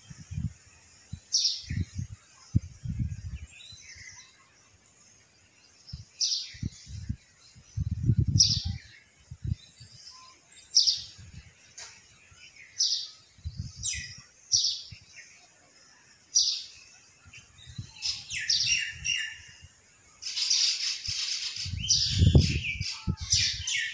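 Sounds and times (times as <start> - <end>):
bird chirping: 0.0 - 23.9.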